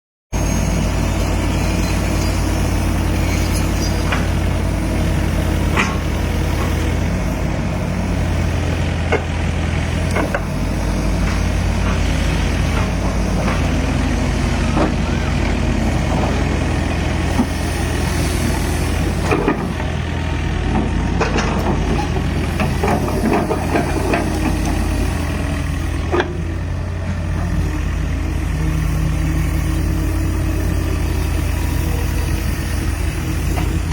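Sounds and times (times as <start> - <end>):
excavator diesel engine running: 0.4 - 33.9.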